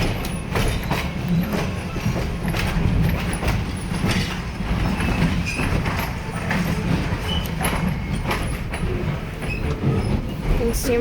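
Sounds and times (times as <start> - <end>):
train car rumbling: 0.0 - 11.0
wheels clicking on rails: 0.0 - 11.0.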